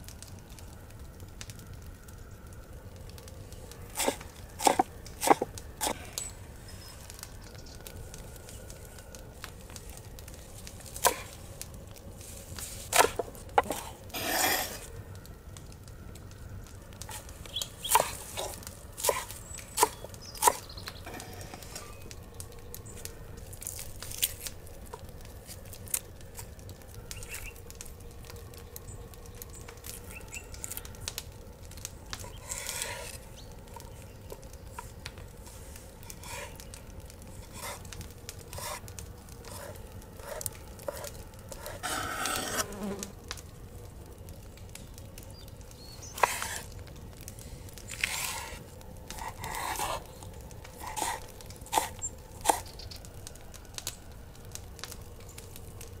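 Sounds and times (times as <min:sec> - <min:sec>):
herbs rustling and scraping: 0:03.2 - 0:15.0, 0:16.5 - 0:43.6, 0:44.3 - 0:55.9.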